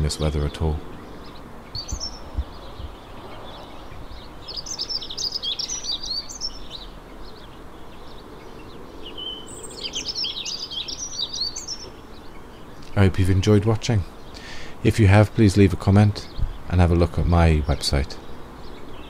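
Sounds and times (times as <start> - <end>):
songbirds chirping: 0.0 - 19.0
steady background hiss: 0.0 - 19.0.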